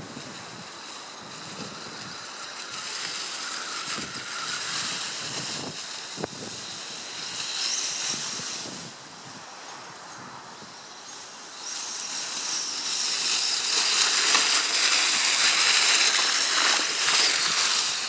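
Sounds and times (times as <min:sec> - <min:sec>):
tyres churning through leaves: 0:00.0 - 0:18.0
electric motor whining: 0:00.8 - 0:09.0, 0:11.5 - 0:18.0.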